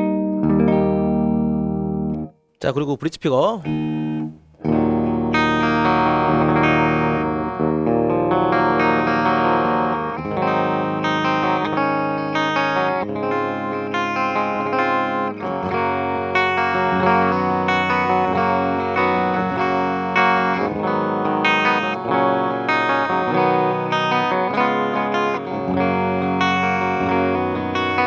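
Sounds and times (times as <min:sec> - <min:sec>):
electric guitar notes and chords: 0:00.0 - 0:02.4, 0:03.6 - 0:28.0.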